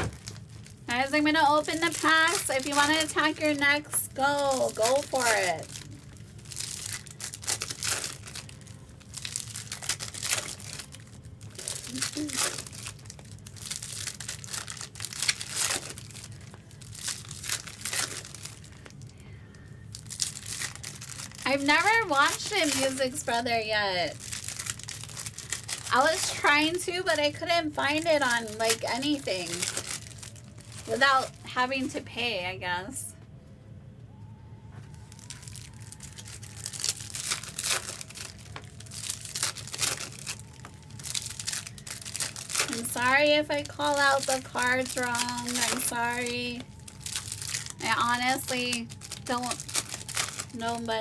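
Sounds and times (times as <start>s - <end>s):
foil wrappers crinkling and tearing: 0.0s - 32.1s, 34.8s - 51.0s.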